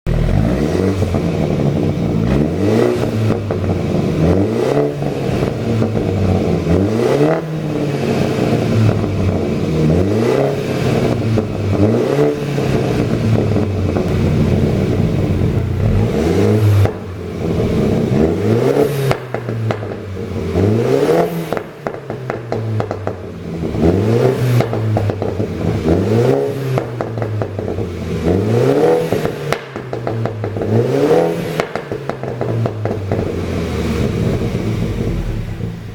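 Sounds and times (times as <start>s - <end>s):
car engine revving: 0.1s - 35.9s
exhaust pops and crackles: 0.1s - 35.9s.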